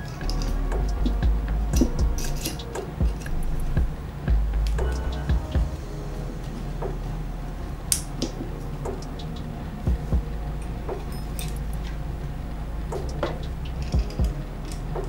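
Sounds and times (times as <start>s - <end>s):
dull low thumps: 0.0s - 15.0s
steady low hum: 0.0s - 15.0s.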